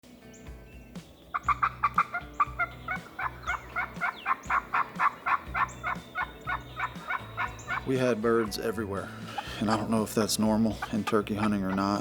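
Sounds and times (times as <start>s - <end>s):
turkey gobbling: 1.3s - 12.0s.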